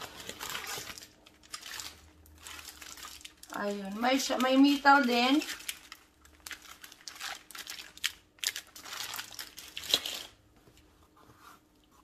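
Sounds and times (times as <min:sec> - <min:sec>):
bubble wrap crinkling: 0:00.0 - 0:10.9.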